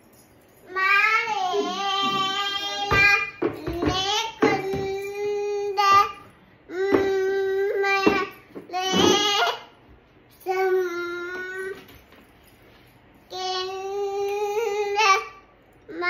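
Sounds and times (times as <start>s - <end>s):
toddler singing held notes: 0.7s - 9.8s, 10.4s - 11.9s, 13.3s - 16.0s.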